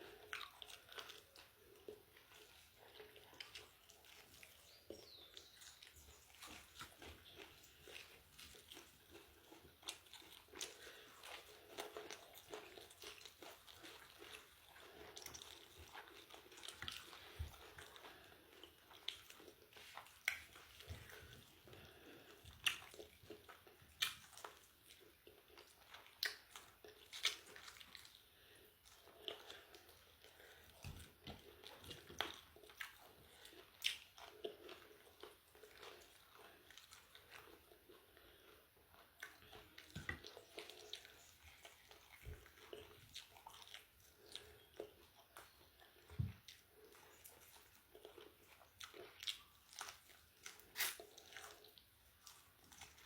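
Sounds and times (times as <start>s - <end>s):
chewing crunchy fried chicken: 0.0s - 53.0s.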